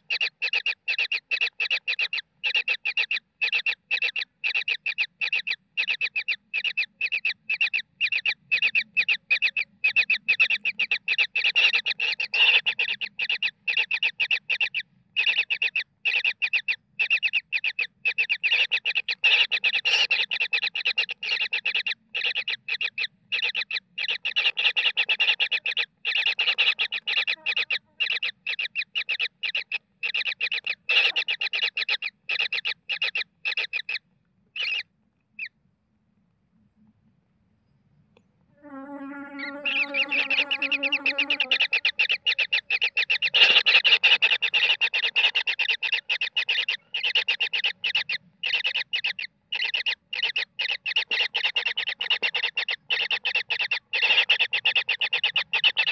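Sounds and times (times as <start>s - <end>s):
chicks begging calls: 0.0s - 34.0s, 34.6s - 34.8s, 38.8s - 55.9s.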